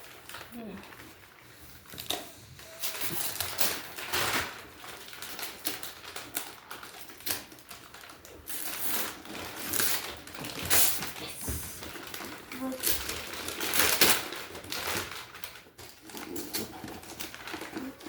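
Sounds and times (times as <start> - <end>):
wrapping paper tearing and crumpling: 0.0 - 18.0.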